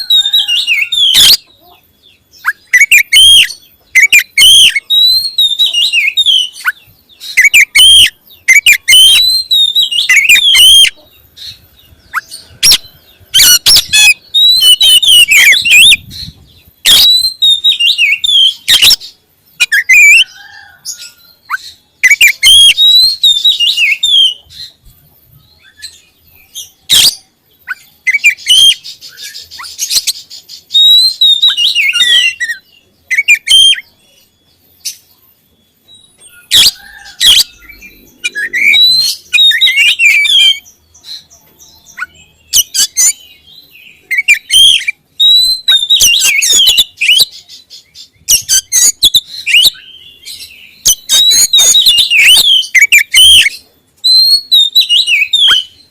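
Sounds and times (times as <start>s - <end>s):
bird singing whistles and chips: 2.4s - 11.6s, 13.4s - 20.3s, 25.5s - 35.1s, 35.9s - 55.9s.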